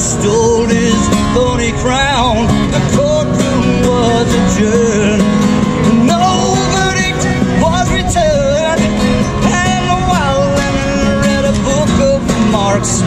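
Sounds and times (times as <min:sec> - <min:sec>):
guitar accompaniment: 0:00.0 - 0:13.0.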